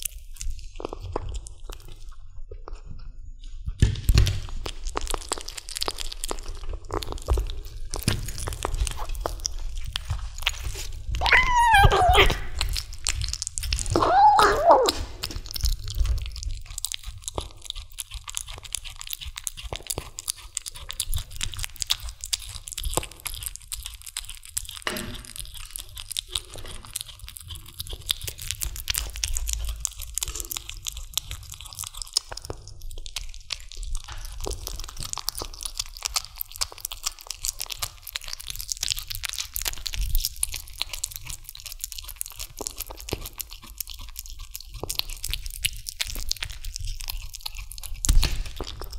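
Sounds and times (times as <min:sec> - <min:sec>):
kitten chewing meat: 0:00.0 - 0:48.9.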